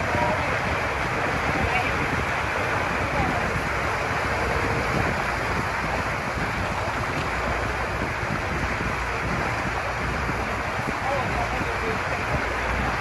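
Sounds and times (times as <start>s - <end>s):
water rushing past a boat: 0.0s - 13.0s
wind buffeting the microphone: 0.0s - 13.0s.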